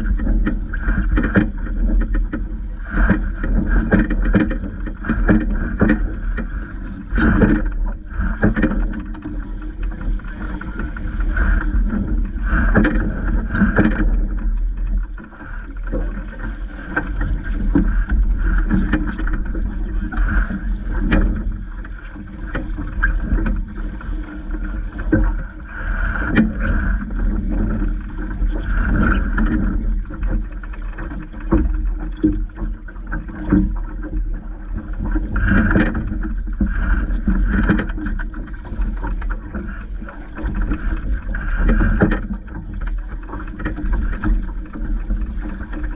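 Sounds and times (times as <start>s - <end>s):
water slapping against boat hull: 0.0s - 45.9s
wind buffeting microphone: 0.0s - 45.9s.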